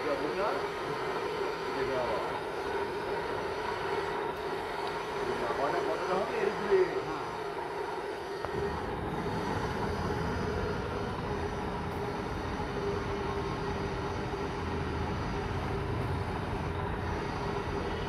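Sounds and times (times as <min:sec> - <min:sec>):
milling machine running: 0:00.0 - 0:18.0.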